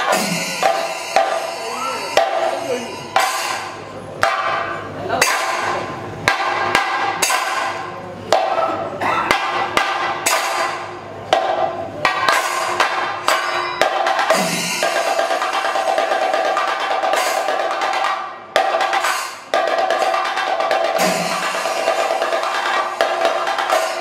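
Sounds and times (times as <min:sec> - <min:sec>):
drums beaten with sticks: 0:00.0 - 0:24.0.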